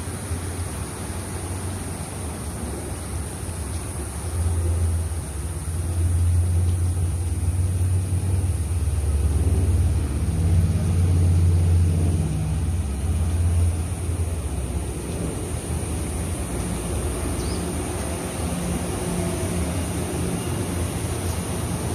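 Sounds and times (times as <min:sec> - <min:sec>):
electric train rumbling: 0:00.0 - 0:21.9.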